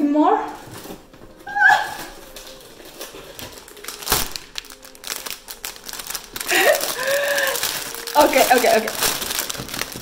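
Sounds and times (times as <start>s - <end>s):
gift packaging crinkling: 0.6s - 10.0s.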